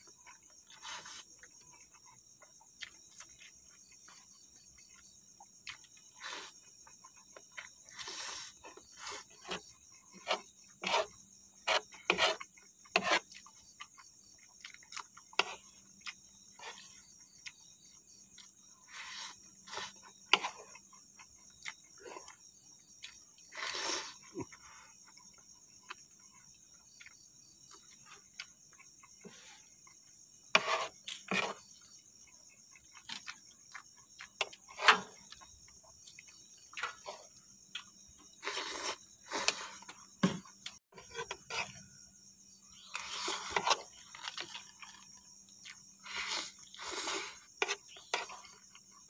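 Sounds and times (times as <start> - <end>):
crickets chirring: 0.0 - 49.0
slurping and chewing noodles: 0.2 - 41.9, 42.8 - 49.0.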